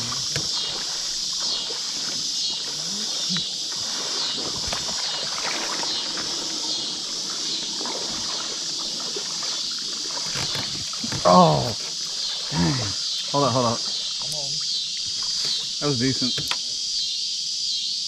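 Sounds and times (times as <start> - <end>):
creek water splashing around legs: 0.0 - 16.6
steady high-pitched hiss: 0.0 - 18.0.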